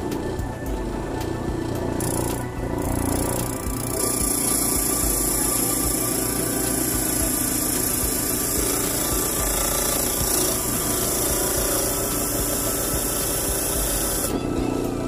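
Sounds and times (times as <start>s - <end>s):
electric motor hum: 0.0s - 15.0s
wood rasping on sanding disc: 1.9s - 14.3s.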